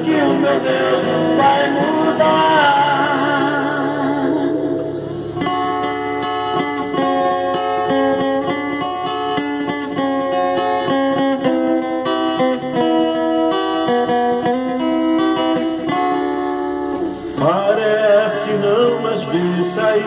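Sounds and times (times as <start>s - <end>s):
acoustic guitar strumming: 0.0s - 20.0s
sustained backing notes: 0.0s - 20.0s.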